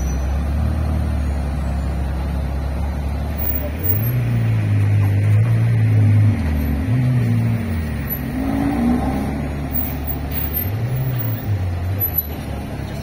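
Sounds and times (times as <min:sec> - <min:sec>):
sports car engine pulling away: 0:00.2 - 0:13.0.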